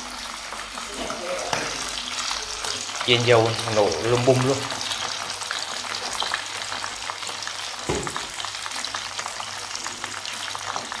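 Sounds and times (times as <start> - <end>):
oil crackling and popping: 0.0 - 11.0.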